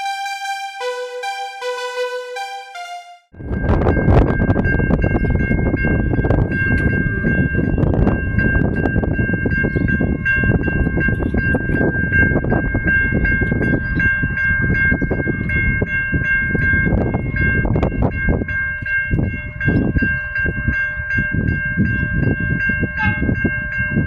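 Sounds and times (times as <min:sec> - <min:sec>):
crossing warning bells ringing: 0:00.0 - 0:24.0.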